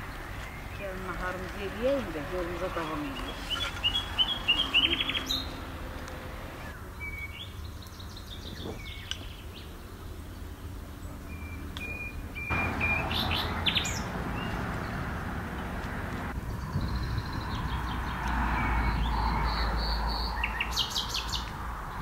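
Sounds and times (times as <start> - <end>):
small birds chirping and singing: 0.0 - 22.0.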